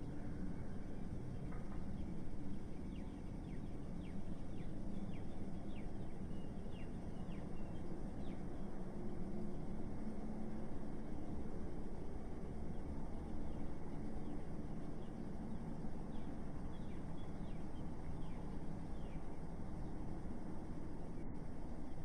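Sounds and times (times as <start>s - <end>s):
city traffic rumble: 0.0s - 22.0s.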